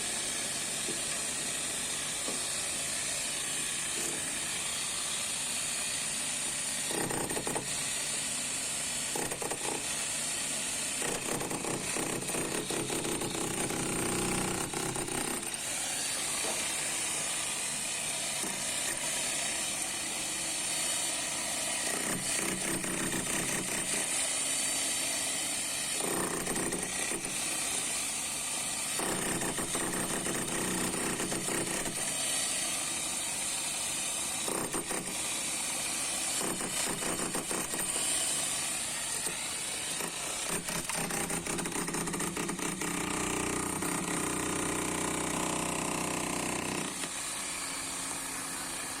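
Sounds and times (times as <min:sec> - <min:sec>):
power tool whining into masonry: 0:00.0 - 0:49.0.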